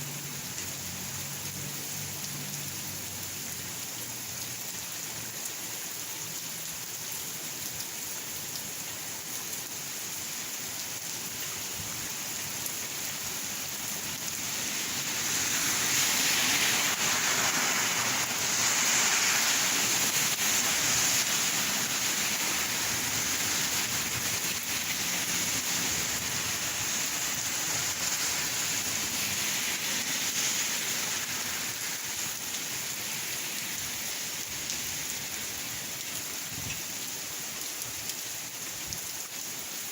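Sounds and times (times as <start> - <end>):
rain splashing on surfaces: 0.0 - 39.9.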